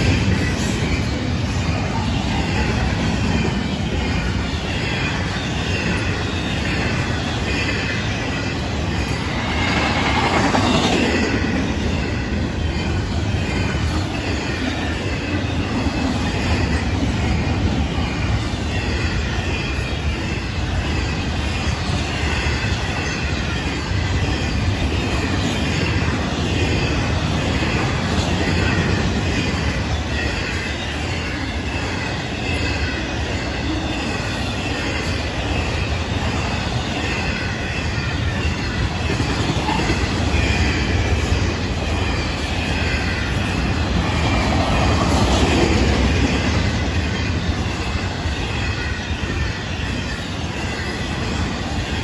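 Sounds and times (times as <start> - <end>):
high-pitched ringing tones: 0.0 - 52.0
steel wheels rumbling on rails: 0.0 - 52.0.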